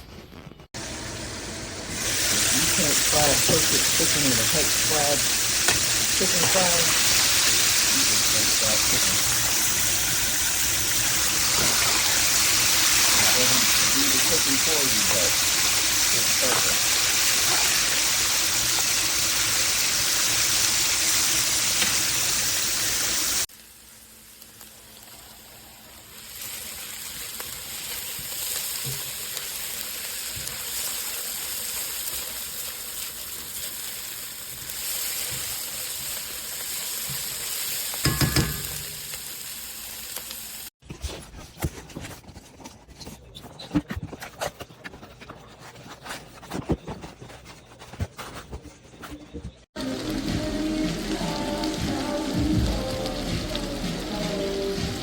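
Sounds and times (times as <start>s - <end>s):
food sizzling in oil: 0.8s - 40.8s, 49.8s - 55.0s.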